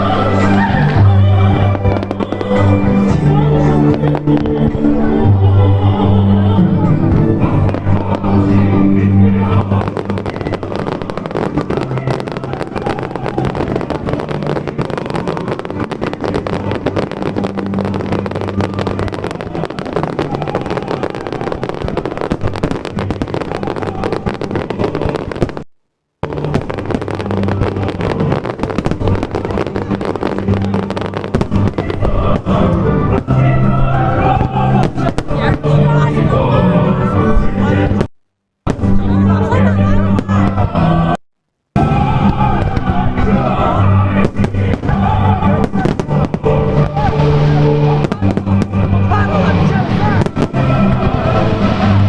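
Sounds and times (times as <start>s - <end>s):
music over loudspeakers: 0.0s - 25.4s, 26.2s - 38.1s, 38.7s - 41.2s, 41.8s - 52.0s
fireworks crackling and popping: 0.0s - 36.3s, 37.1s - 52.0s.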